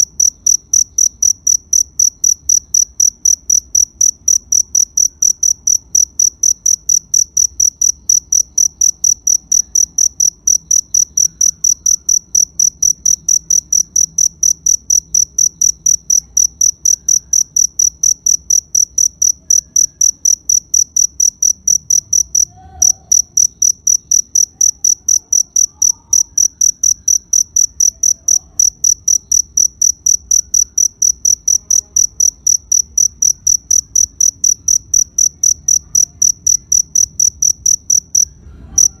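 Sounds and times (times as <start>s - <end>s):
cricket chirping: 0.0s - 39.0s.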